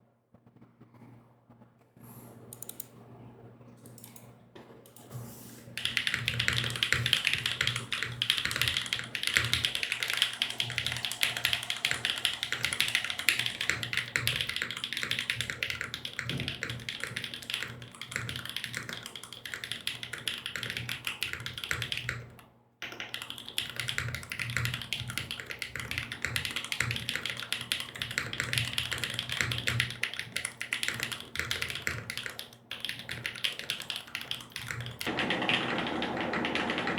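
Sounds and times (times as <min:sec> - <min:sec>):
mechanical keyboard typing: 0:02.5 - 0:02.9, 0:03.8 - 0:04.3, 0:05.8 - 0:36.9.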